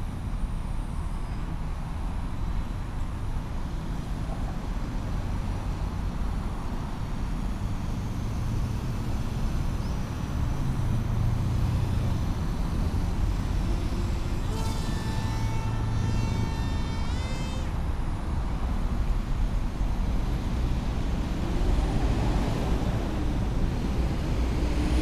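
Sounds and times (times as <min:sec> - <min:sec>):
distant road traffic rumble: 0:00.0 - 0:25.0.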